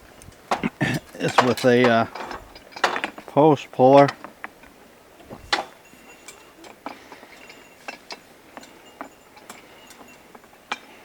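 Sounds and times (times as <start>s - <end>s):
sharp clicks and light knocks: 0.2s - 10.9s.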